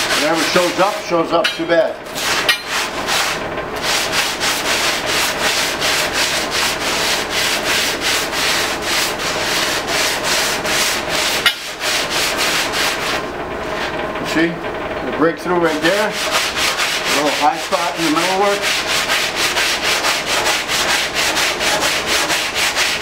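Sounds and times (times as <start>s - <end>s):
sandpaper rubbing by hand: 0.0s - 1.2s, 2.1s - 14.0s, 15.6s - 23.0s.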